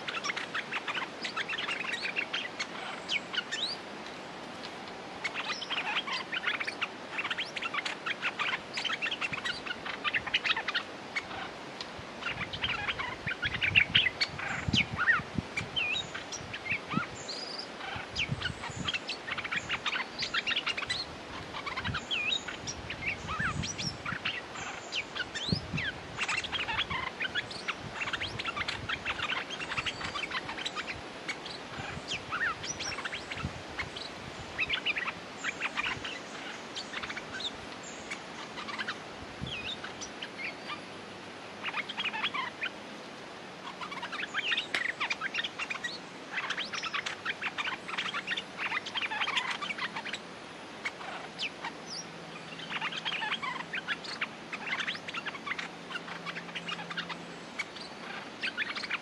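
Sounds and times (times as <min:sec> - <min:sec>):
bulbuls chirping rapidly: 0:00.0 - 0:03.9, 0:04.8 - 0:42.9, 0:43.6 - 0:59.0.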